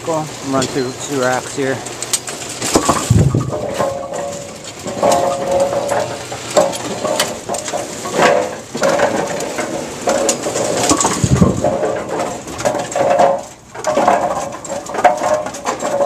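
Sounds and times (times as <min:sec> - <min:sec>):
pins clanking: 0:02.0 - 0:16.0.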